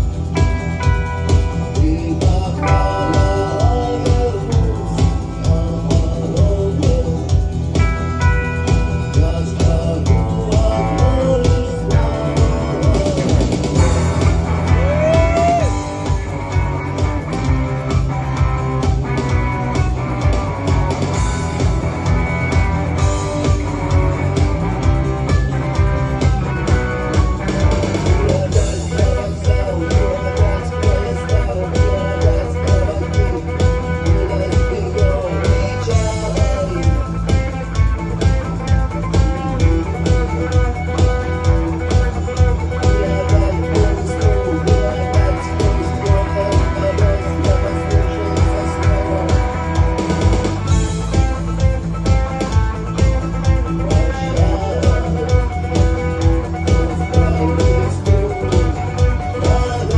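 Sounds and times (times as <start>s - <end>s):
bass: 0.0s - 59.9s
drum beat: 0.0s - 59.9s
rock music with guitar: 0.0s - 59.9s.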